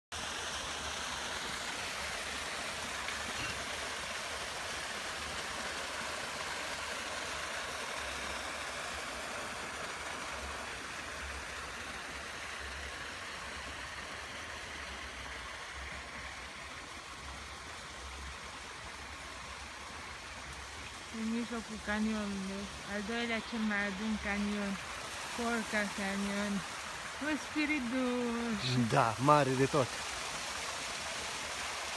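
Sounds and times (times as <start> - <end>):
flowing water rushing: 0.1 - 31.9.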